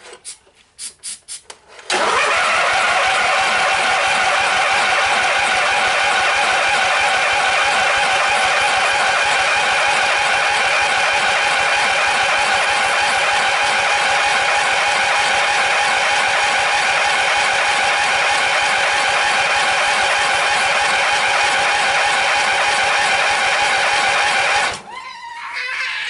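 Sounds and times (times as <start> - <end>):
starting fluid spraying: 0.1 - 24.8
engine cranked by electric starter: 1.7 - 24.9.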